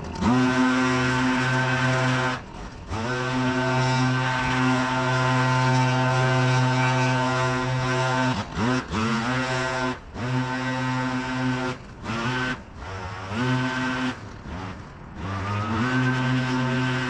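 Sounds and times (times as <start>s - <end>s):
leaf vacuum engine running: 0.0s - 17.0s.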